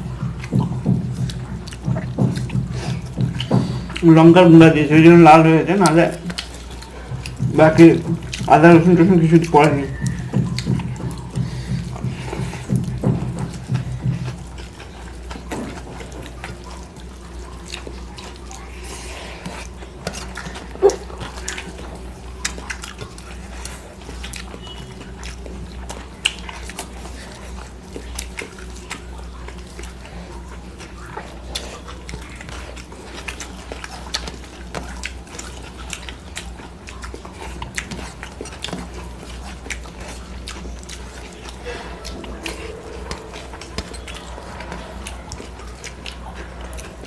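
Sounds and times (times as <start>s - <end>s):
chewing: 0.0s - 47.0s
fingers mixing rice on plates: 0.0s - 47.0s
low steady hum: 0.0s - 47.0s.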